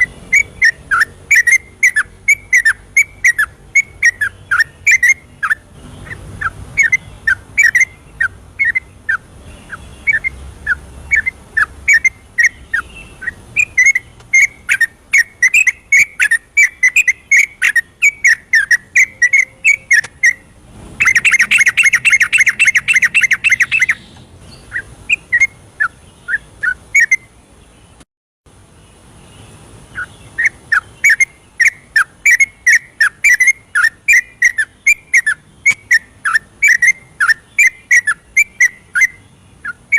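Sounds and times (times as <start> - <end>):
bird song whistled notes and trills: 0.0 - 28.0, 28.6 - 39.9.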